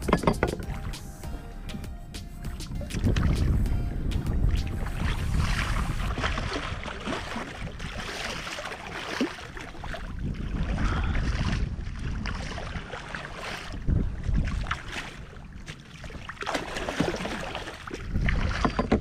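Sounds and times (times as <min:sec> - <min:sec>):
water splashing around kayak: 0:00.0 - 0:01.5, 0:02.3 - 0:19.0
wind buffeting microphone: 0:02.0 - 0:19.0.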